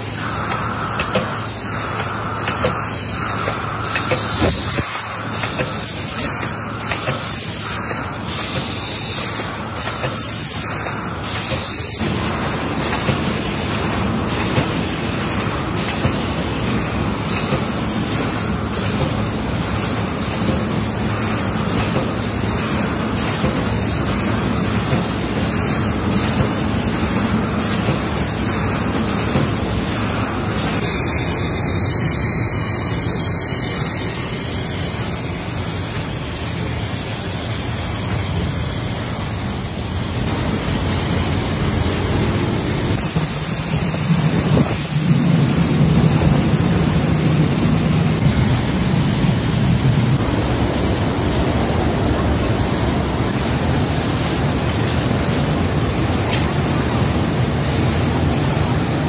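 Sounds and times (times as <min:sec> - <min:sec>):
gas burners and machinery rushing: 0:00.0 - 0:59.0.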